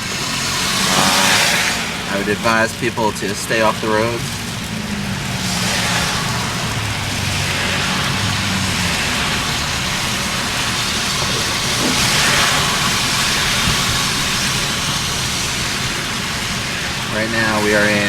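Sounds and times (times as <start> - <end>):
car engine hum: 0.0 - 18.0
tyre hiss on snow: 0.0 - 18.0.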